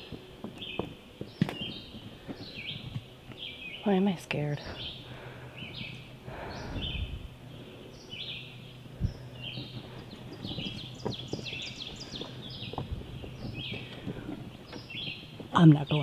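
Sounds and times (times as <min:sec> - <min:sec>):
birds chirping and singing: 0:00.0 - 0:16.0.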